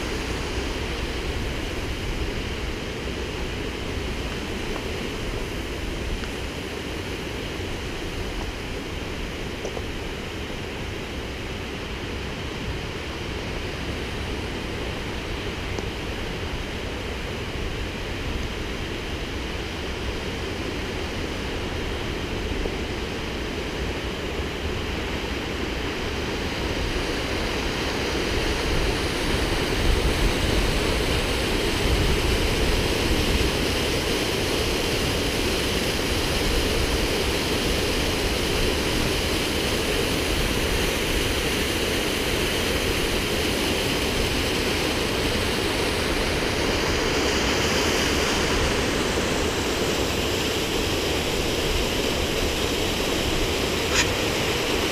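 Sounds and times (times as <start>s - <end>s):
waterfall rushing over rocks: 0.0s - 54.9s.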